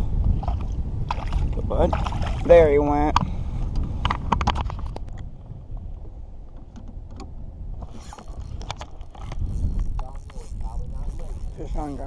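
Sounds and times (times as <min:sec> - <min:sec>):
wind on microphone: 0:00.0 - 0:12.0
water lapping against boat hull: 0:00.2 - 0:12.0.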